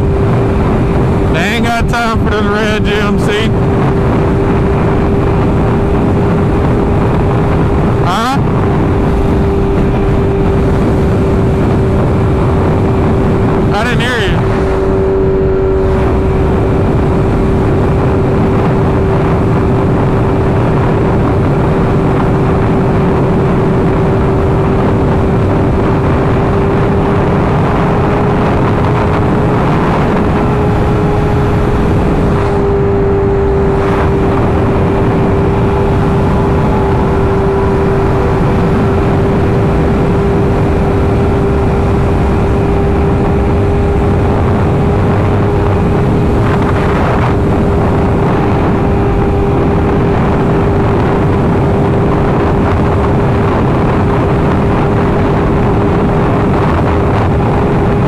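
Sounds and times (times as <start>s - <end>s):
motorcycle engine steady: 0.0s - 58.0s
wind and road noise: 0.0s - 58.0s.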